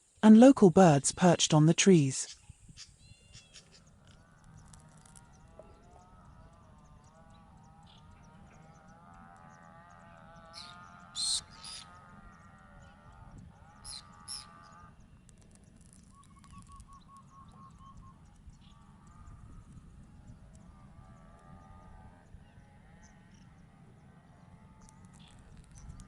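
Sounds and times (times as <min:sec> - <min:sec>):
birds calling: 0:02.3 - 0:26.0.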